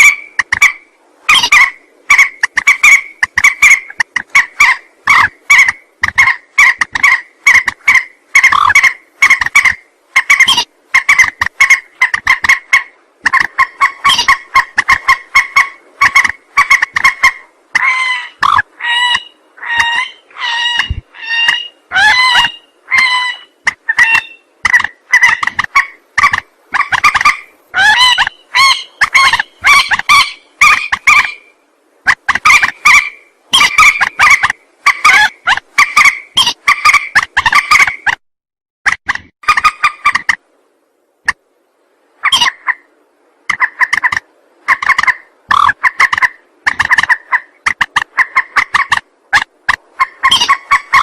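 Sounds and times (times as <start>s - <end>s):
rail bird calls: 0.0s - 38.2s, 42.2s - 51.0s.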